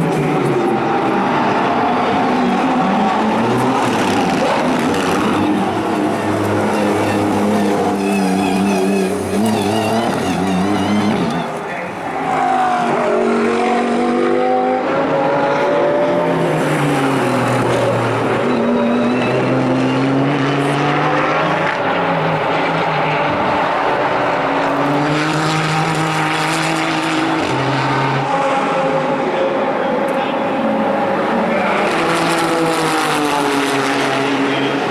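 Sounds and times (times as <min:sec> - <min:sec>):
race car engine accelerating: 0:00.0 - 0:34.9.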